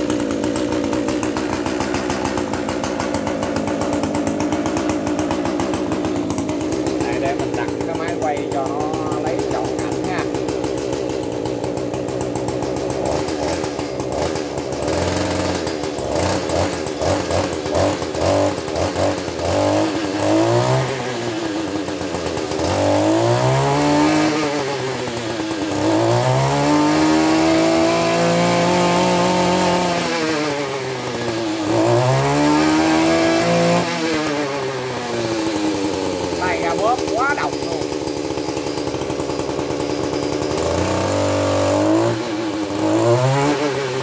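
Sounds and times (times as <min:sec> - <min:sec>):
brush cutter engine revving: 0:00.0 - 0:44.0.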